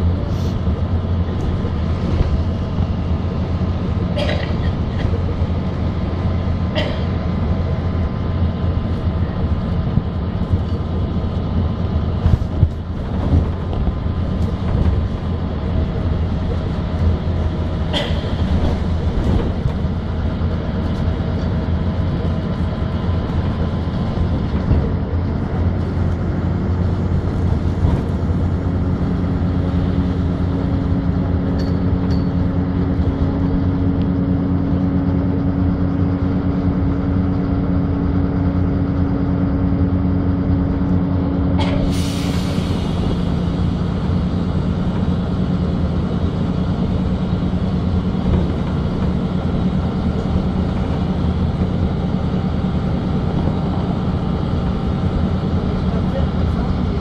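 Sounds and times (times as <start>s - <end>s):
bus engine running: 0.0s - 57.0s
knocks and rattles from bus body: 0.8s - 39.2s, 39.8s - 57.0s.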